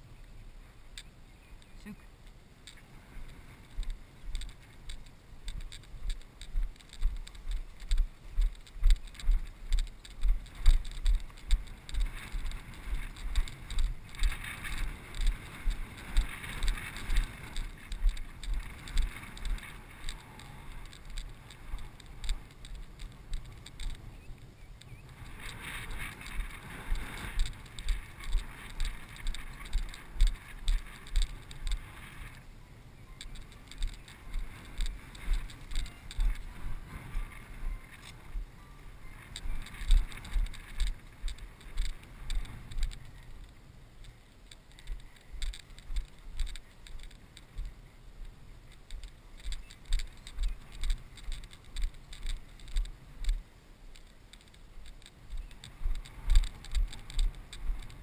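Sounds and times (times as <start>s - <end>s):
rustling: 0.0s - 58.0s
wind noise: 0.0s - 58.0s
footsteps through grass: 2.7s - 32.4s, 33.2s - 53.4s.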